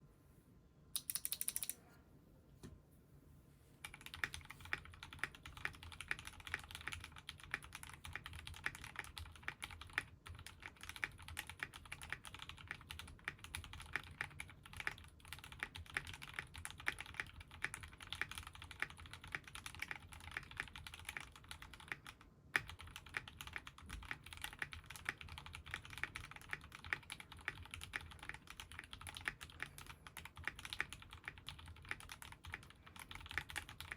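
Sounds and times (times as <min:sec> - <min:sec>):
mechanical keyboard typing: 0:01.0 - 0:01.8, 0:03.8 - 0:33.9.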